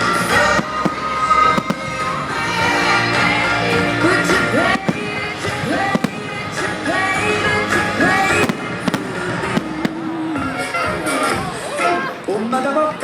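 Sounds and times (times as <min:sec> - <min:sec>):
loud music: 0:00.0 - 0:11.5
fireworks bangs: 0:00.0 - 0:11.9.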